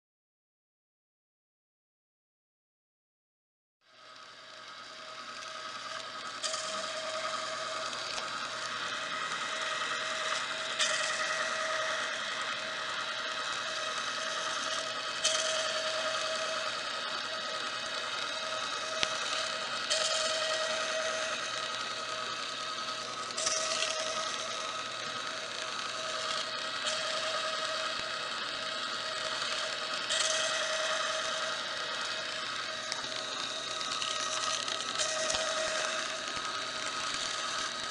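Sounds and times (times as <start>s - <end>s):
faint whine: 3.9s - 37.9s
film machine whirring: 3.9s - 37.9s.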